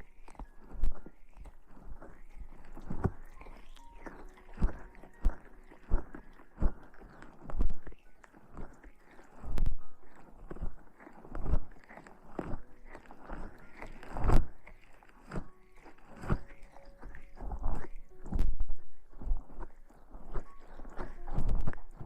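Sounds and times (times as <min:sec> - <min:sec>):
close rustling and scratching: 0:00.0 - 0:22.0.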